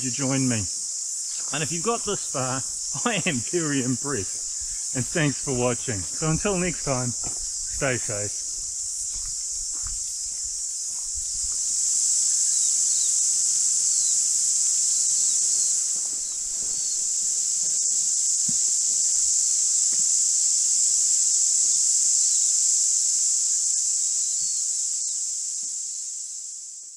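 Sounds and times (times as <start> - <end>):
cicada chorus: 0.0 - 26.9.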